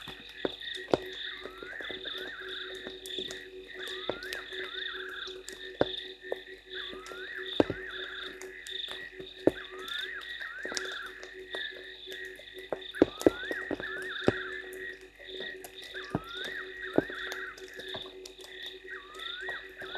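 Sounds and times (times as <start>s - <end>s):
frog rising calls: 0.0s - 19.9s
frogs pulsing trill: 0.0s - 19.9s
low steady frog note: 0.8s - 19.9s.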